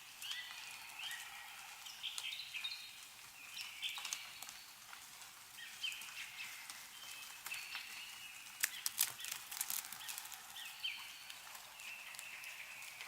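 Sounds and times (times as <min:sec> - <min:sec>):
melting snow dripping from trees: 0:00.0 - 0:13.0
small birds chirping: 0:00.0 - 0:13.0.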